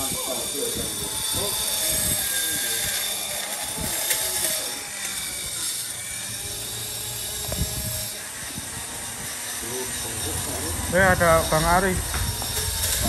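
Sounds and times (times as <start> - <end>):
rotary grinder whining: 0.0 - 13.0.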